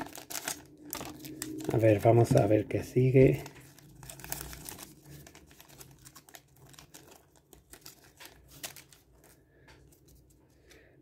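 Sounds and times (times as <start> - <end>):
foil wrapper crinkling: 0.0 - 10.2.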